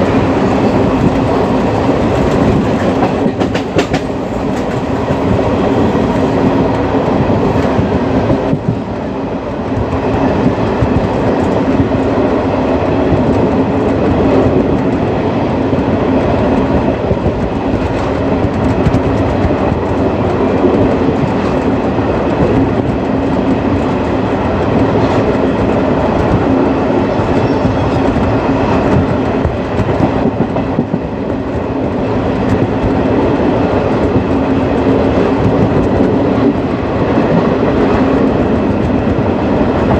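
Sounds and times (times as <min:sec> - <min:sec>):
wheels clacking over rail joints: 0:00.0 - 0:05.9, 0:09.7 - 0:39.9
train rumble from aboard: 0:00.0 - 0:39.9.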